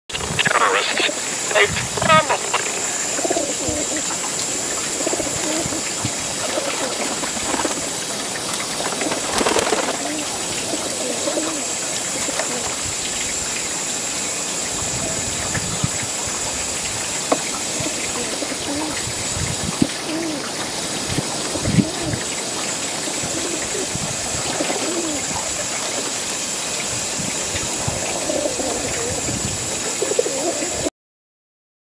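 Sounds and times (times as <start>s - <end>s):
steady hiss: 0.1s - 30.9s
pigeons cooing: 0.4s - 30.9s.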